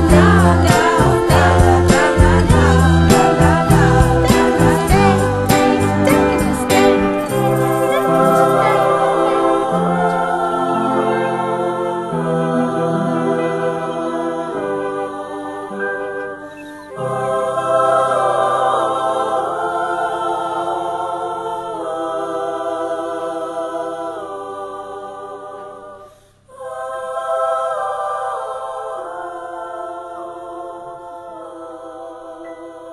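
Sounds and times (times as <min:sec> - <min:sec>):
choir-like vocal chords: 0:00.0 - 0:32.9.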